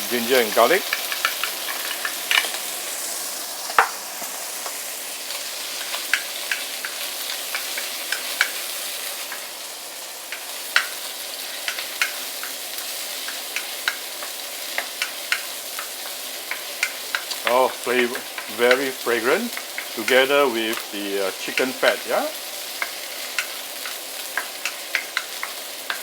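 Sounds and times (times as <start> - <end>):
chicken sizzling in a wok: 0.0 - 26.0.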